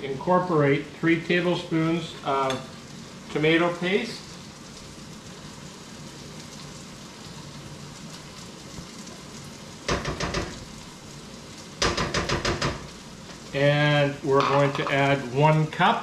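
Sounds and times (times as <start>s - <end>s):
beef sizzling in a skillet: 0.0s - 16.0s.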